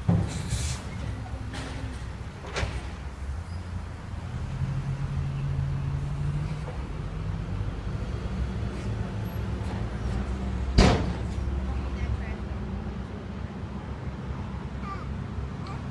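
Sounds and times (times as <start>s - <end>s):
garbage truck diesel engine: 0.0s - 15.9s.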